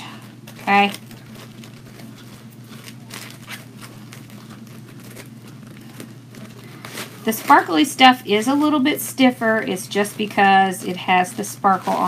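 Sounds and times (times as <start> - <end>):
ribbon rustling and crinkling: 0.0 - 12.0.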